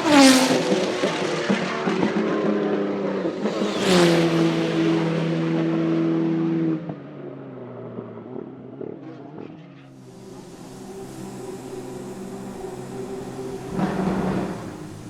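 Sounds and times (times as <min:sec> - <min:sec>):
race car passing at high revs: 0:00.0 - 0:15.0.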